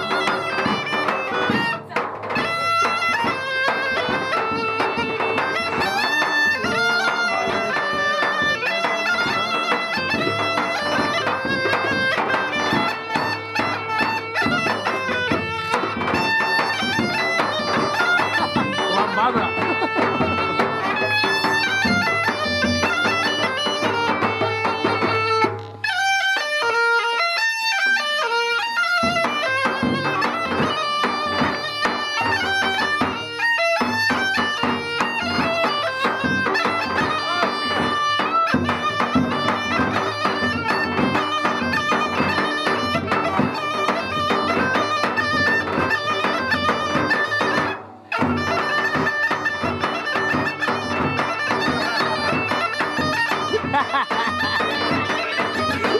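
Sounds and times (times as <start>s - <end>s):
bagpipe playing fast melody: 0.0s - 55.9s.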